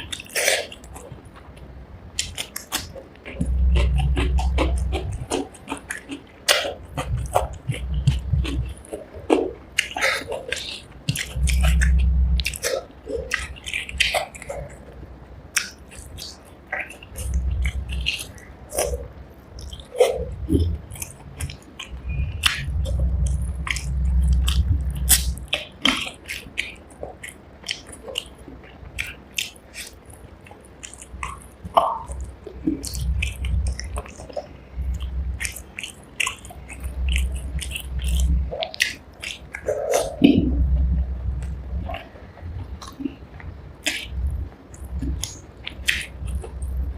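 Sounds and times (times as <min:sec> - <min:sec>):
mouth clicks and smacks: 0:00.0 - 0:46.9
person chewing food: 0:00.0 - 0:46.9.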